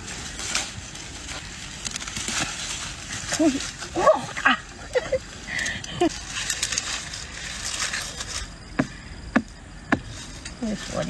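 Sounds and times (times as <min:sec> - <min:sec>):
vines and leaves rustling: 0:00.0 - 0:11.0.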